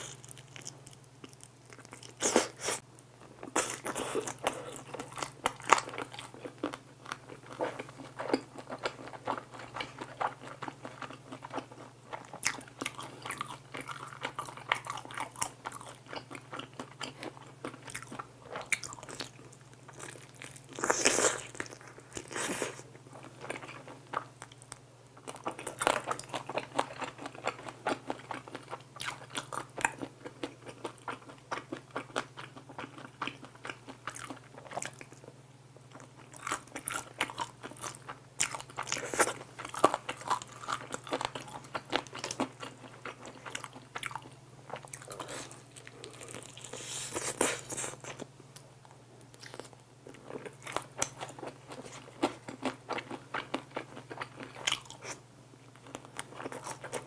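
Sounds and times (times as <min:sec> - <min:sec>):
crunchy chicken wings being chewed: 0:00.0 - 0:02.8, 0:03.4 - 0:57.0.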